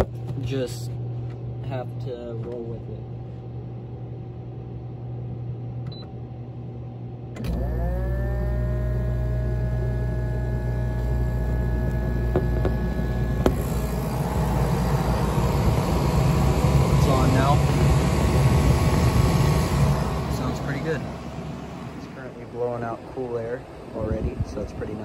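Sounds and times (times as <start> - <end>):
air conditioner compressor hum: 0.0 - 25.0
blower low hum: 0.0 - 25.0.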